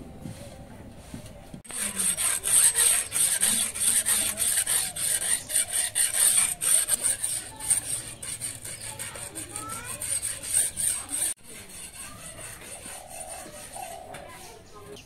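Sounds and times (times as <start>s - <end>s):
sharpening stone scraping steel blade: 1.7s - 14.4s.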